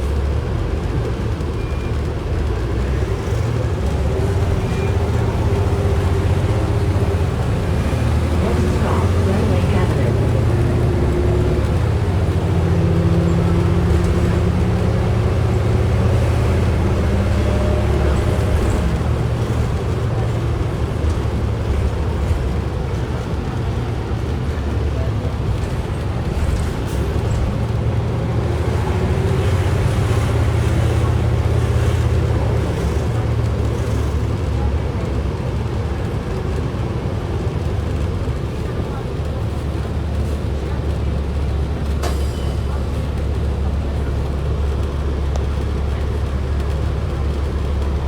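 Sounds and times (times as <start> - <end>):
bus engine rumble: 0.0 - 48.0
bus body rattle: 3.5 - 37.1, 38.0 - 48.0.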